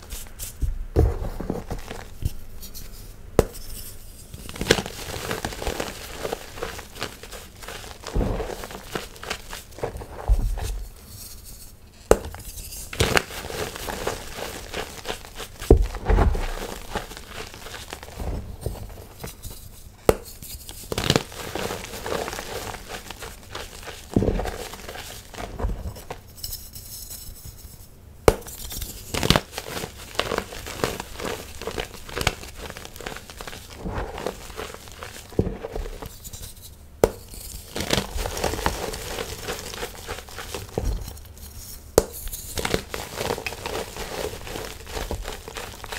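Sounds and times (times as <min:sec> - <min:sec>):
chalk blocks crunching and crumbling: 0:00.0 - 0:02.8, 0:03.8 - 0:26.3, 0:28.4 - 0:45.9
dry gritty rustle: 0:00.0 - 0:02.9, 0:04.2 - 0:27.6, 0:28.5 - 0:45.9.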